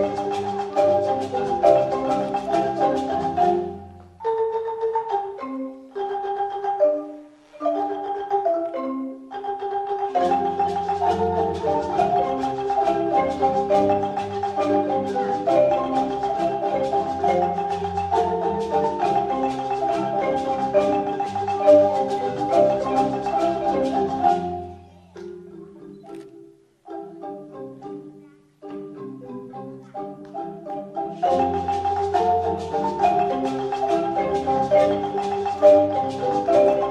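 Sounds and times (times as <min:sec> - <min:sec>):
marimba ensemble playing: 0:00.0 - 0:36.9.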